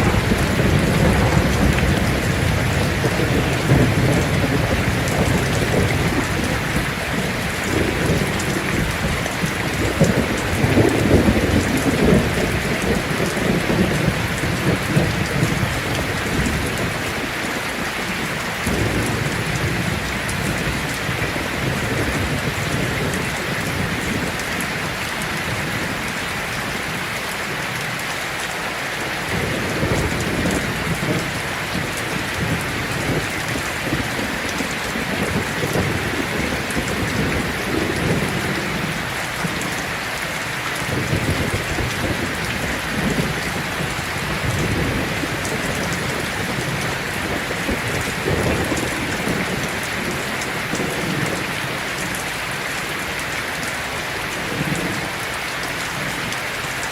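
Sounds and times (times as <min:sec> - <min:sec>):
thunder rumbling: 0:00.0 - 0:27.6, 0:29.0 - 0:52.5
heavy rain on a tin roof: 0:00.0 - 0:56.9.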